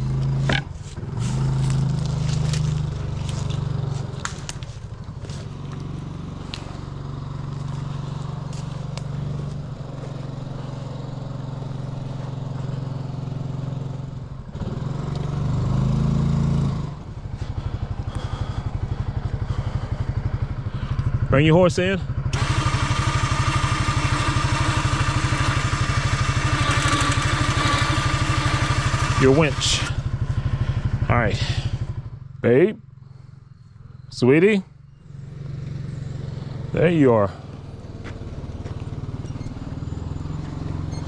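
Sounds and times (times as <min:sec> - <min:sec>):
vehicle engine idling: 0:00.0 - 0:41.0.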